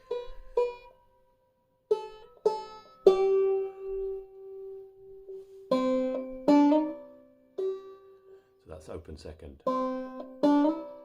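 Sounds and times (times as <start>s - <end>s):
banjo plucked notes: 0.0s - 11.0s.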